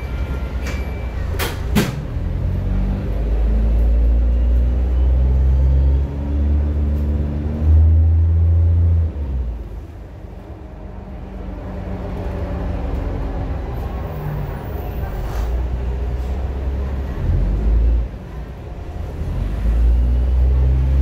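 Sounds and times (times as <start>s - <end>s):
diesel bus engine drone: 0.0s - 21.0s.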